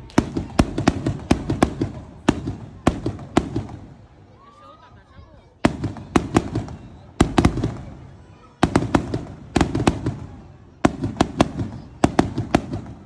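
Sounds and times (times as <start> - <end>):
fireworks bangs: 0.0 - 4.4, 5.6 - 13.0.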